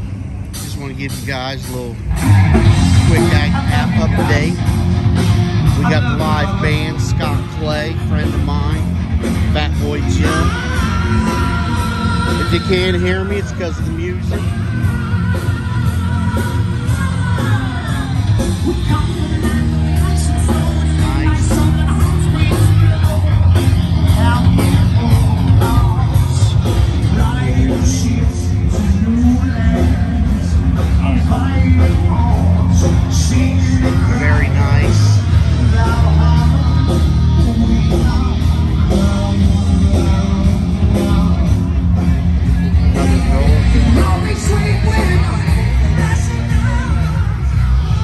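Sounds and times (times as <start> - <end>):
live rock band playing: 0.0 - 48.0
person singing: 5.6 - 48.0.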